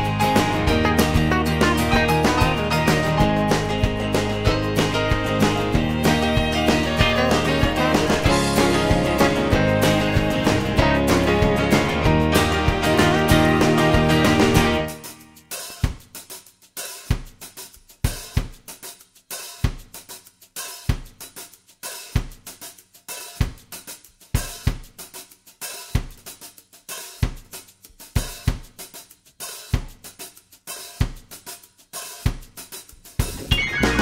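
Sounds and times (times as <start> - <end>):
drums playing a steady beat: 0.0 - 34.0.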